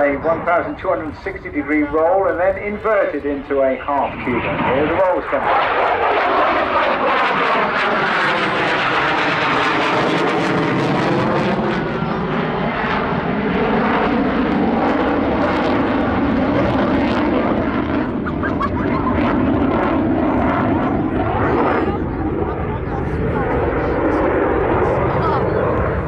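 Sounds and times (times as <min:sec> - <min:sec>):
jet engines roaring past: 0:00.0 - 0:26.0.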